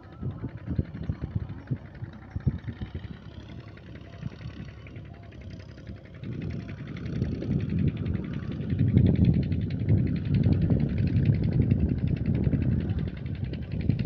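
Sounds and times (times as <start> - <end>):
low rumble: 0.0 - 14.0
tractor diesel engine running: 0.0 - 14.0.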